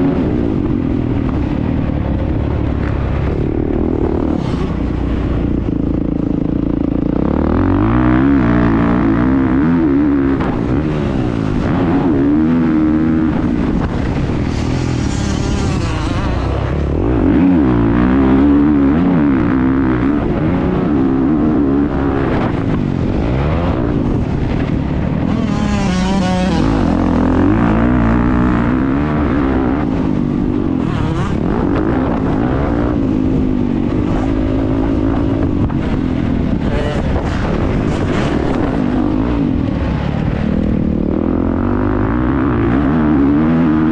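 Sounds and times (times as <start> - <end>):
wind noise: 0.0 - 43.9
motocross bike engine revving: 2.4 - 43.9.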